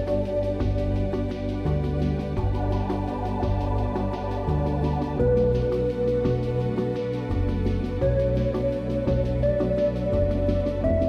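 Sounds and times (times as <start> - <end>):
calm synth music with beat: 0.0 - 11.0.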